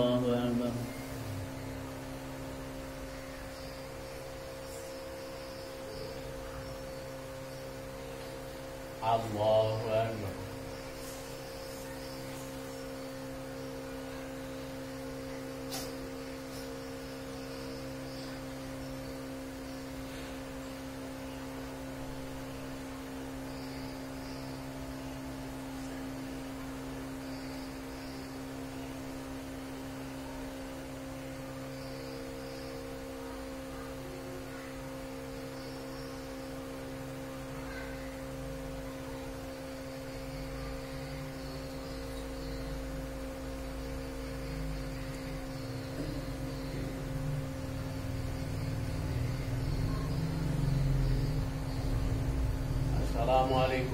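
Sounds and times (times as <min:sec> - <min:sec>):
electrical hum of equipment: 0:00.0 - 0:53.9.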